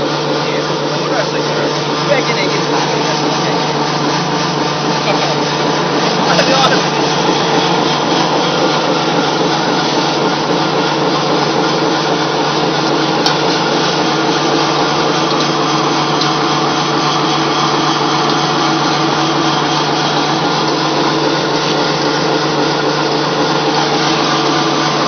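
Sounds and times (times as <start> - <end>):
geared drive hum: 0.0 - 25.0
pellet mill mechanical drone: 0.0 - 25.0.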